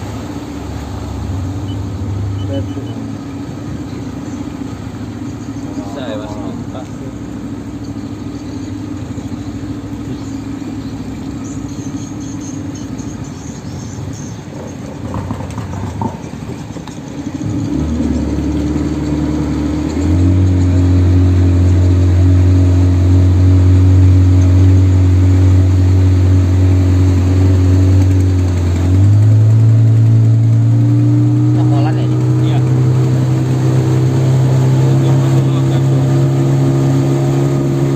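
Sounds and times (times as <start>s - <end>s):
motorboat engine: 0.0s - 37.9s.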